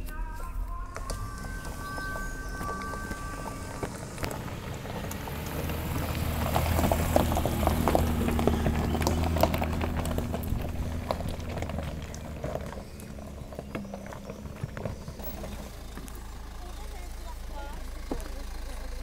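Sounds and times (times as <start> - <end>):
low engine hum: 0.0 - 19.0
tyres crunching stones: 0.0 - 19.0.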